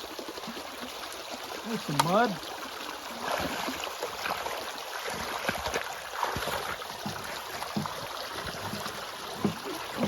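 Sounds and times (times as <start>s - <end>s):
water running along a ditch: 0.0s - 10.0s.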